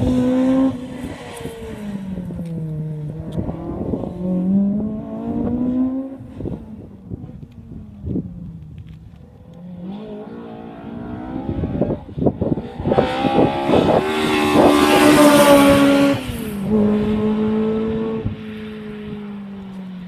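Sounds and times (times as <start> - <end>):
rally car engine revving: 0.0 - 7.4, 9.6 - 18.9.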